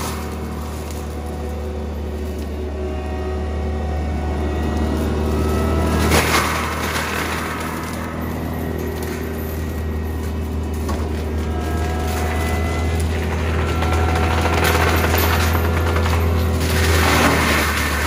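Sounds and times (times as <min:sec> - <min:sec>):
diesel engine droning under load: 0:00.0 - 0:18.0
mulcher whining: 0:00.0 - 0:18.0.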